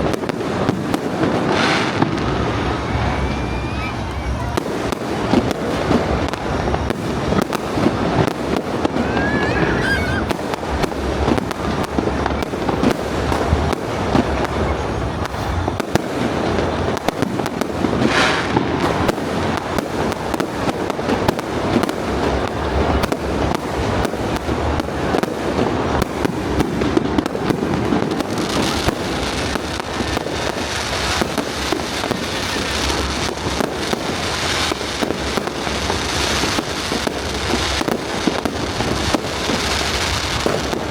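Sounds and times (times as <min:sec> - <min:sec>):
fireworks bangs and crackle: 0:00.0 - 0:40.9.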